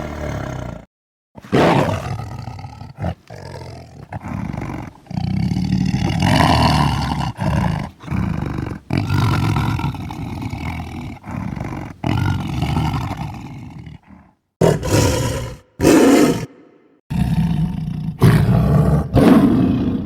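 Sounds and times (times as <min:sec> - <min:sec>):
tiger roaring: 0:00.0 - 0:20.0.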